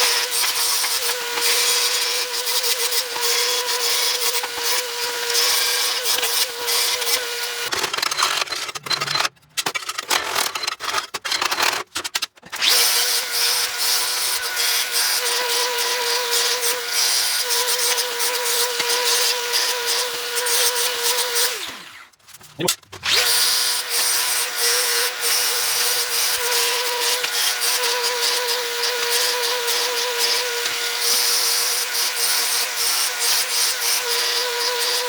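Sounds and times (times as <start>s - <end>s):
power tool whining on steel: 0.0s - 7.7s, 12.5s - 22.1s, 23.0s - 35.0s.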